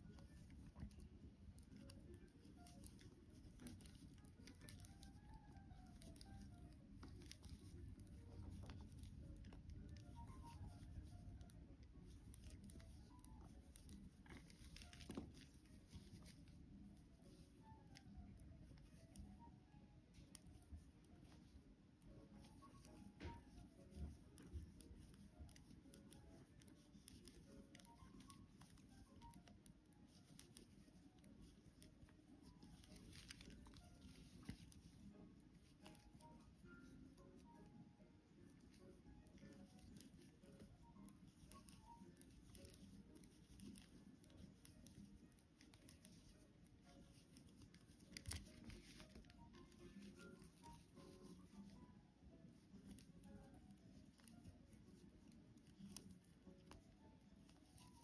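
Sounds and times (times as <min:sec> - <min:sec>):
knitting needles clicking: 0:00.0 - 0:58.0.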